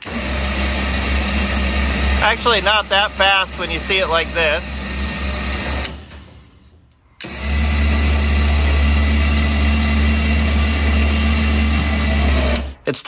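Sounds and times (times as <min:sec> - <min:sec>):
electric winch motor humming: 0:00.0 - 0:12.8.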